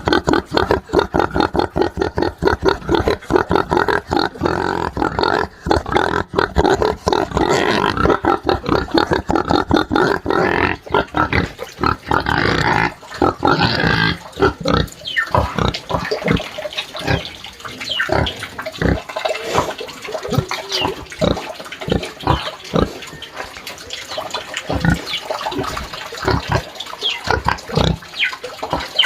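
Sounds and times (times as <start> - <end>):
pig squealing: 0.0 - 23.5.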